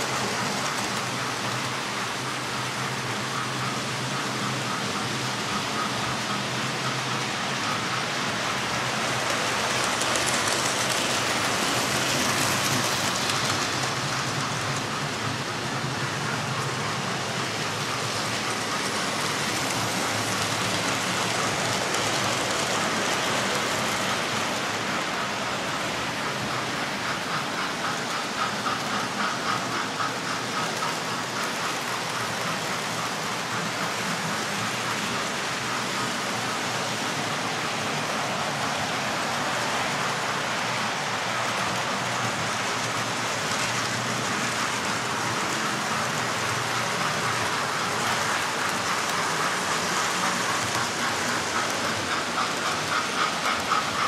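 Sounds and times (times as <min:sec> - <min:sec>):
small wheels rattling on track: 0:00.0 - 0:54.0.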